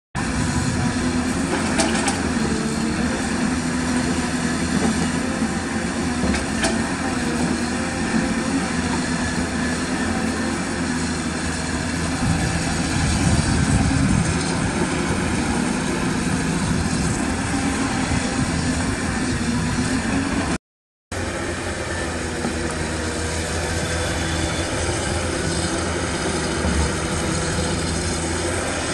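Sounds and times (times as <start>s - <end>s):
excavator diesel engine running: 0.2s - 28.9s.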